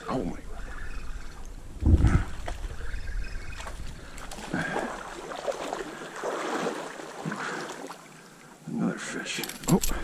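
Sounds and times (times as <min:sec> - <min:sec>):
stream water rippling and splashing: 0:00.0 - 0:10.0.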